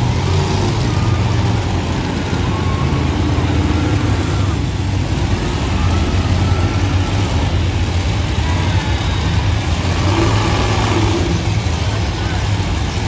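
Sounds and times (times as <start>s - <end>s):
monster truck engines revving: 0.0s - 13.0s.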